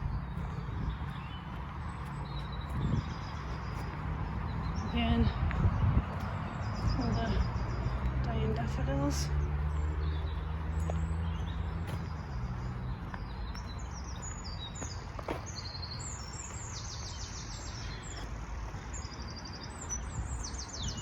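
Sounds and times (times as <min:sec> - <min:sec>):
low traffic rumble: 0:00.0 - 0:21.0
small songbirds singing: 0:00.0 - 0:21.0.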